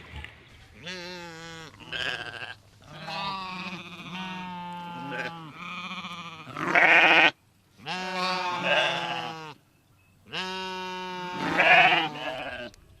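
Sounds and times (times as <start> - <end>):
sheep or goat bleating: 0.8 - 9.6, 10.3 - 12.7.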